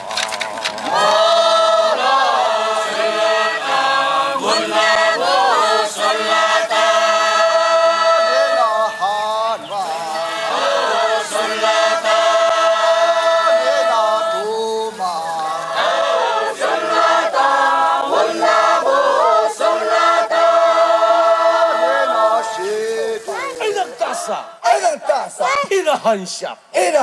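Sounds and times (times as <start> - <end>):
group chanting unaccompanied: 0.9 - 24.8.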